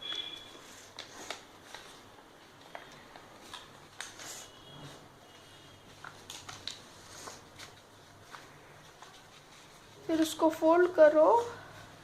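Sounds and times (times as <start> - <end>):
paper being folded and creased: 0.0 - 4.6, 5.9 - 11.2.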